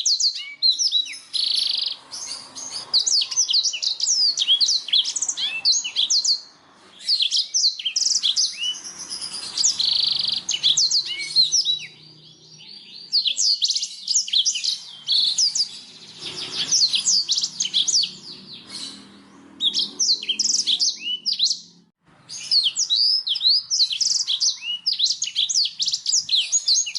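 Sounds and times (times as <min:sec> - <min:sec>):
bird singing high sweeping notes: 0:00.0 - 0:26.9.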